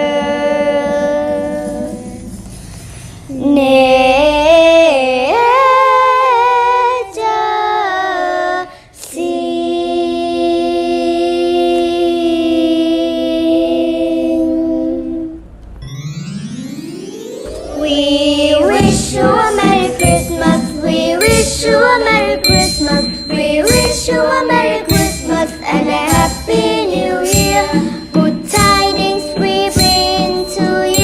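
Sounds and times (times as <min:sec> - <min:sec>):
girls singing together: 0:00.0 - 0:02.5, 0:03.3 - 0:15.3, 0:17.7 - 0:31.0.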